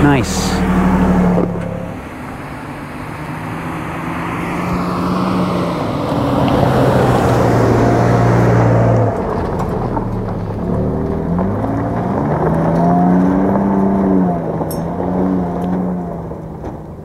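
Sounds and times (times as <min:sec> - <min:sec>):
truck engine hum: 0:00.0 - 0:17.0
tyres on dirt: 0:00.0 - 0:17.0.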